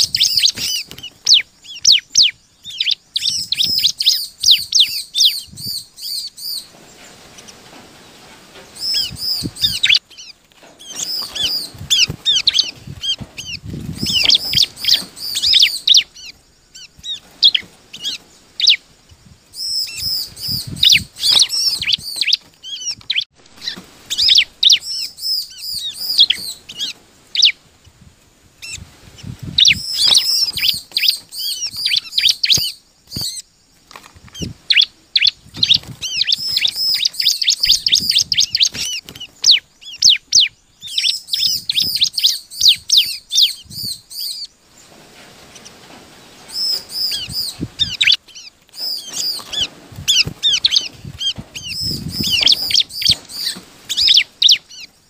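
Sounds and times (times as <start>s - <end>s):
bird singing high sharp chirps: 0.0s - 6.8s, 8.7s - 18.8s, 19.5s - 27.6s, 28.6s - 33.5s, 34.4s - 44.5s, 46.5s - 55.0s.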